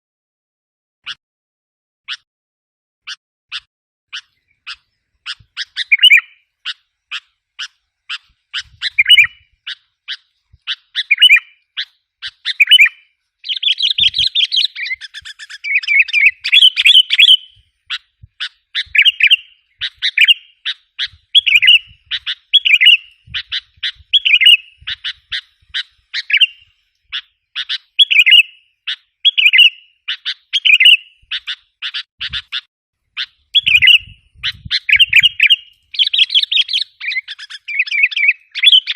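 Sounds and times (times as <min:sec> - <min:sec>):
bird chip notes and warbles: 0:03.1 - 0:38.9.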